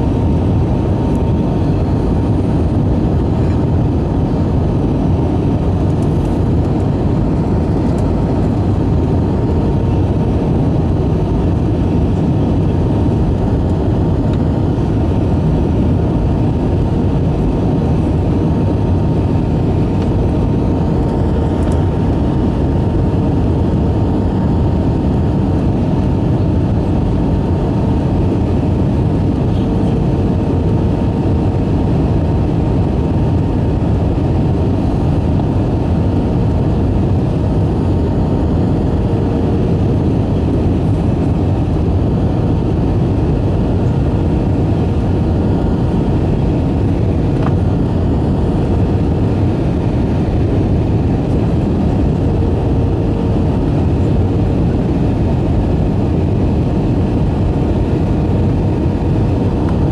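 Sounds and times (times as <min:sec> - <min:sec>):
airliner cabin engine and airflow rush: 0:00.0 - 0:59.9
faint steady whine: 0:00.0 - 0:59.9.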